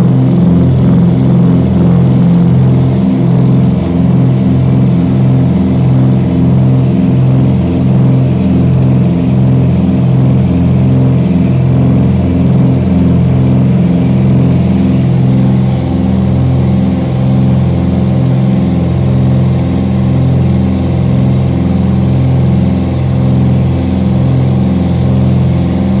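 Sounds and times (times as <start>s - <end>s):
aircraft engines droning: 0.0s - 26.0s.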